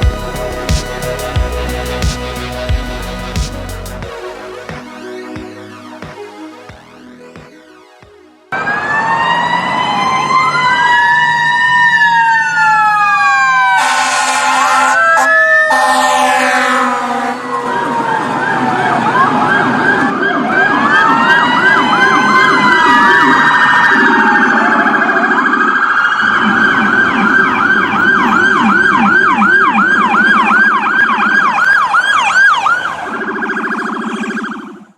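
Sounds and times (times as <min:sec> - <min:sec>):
electronic sirens yelping and wailing: 0:04.0 - 0:34.9.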